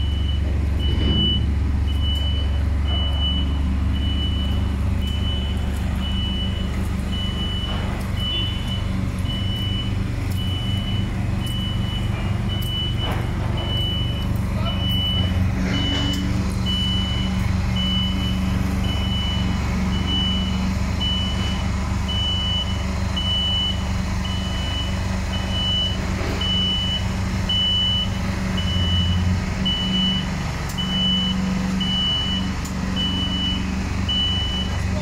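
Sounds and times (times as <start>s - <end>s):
motion alarm beeping: 0.0s - 34.8s.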